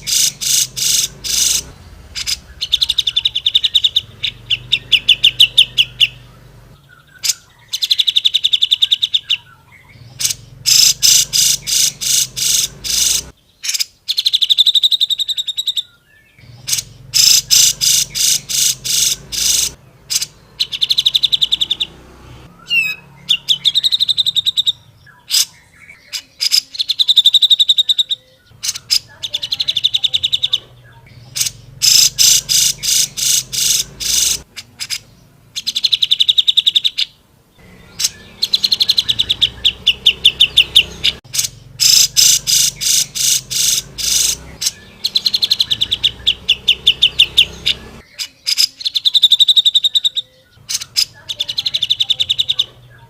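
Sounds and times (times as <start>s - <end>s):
bulbul singing trills: 0.0s - 53.0s.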